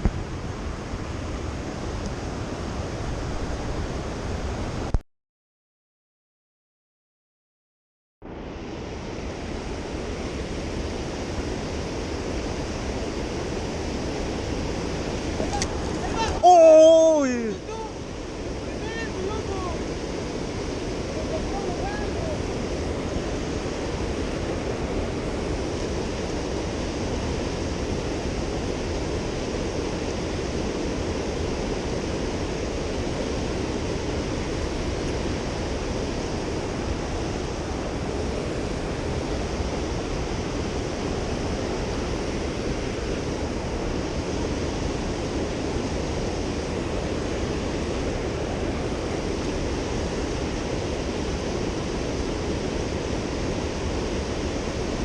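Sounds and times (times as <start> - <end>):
river water rushing: 0.0 - 4.9, 8.3 - 55.0.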